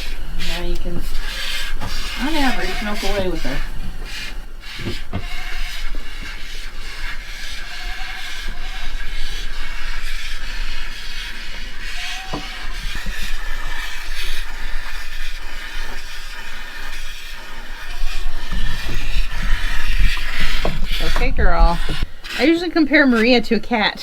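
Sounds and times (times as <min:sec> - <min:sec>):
milk squirting into a pail: 0:00.0 - 0:23.8.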